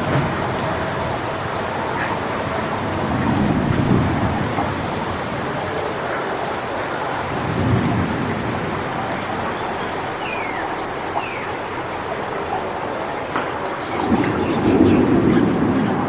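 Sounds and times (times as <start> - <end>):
wind rushing through palm fronds: 0.0 - 16.0.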